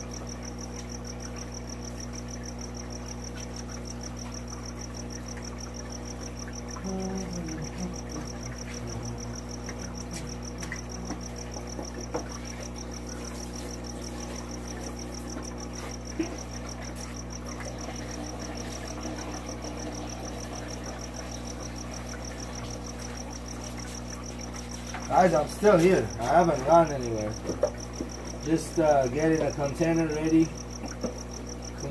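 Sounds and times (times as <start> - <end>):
low hum of aquarium equipment: 0.0 - 31.9.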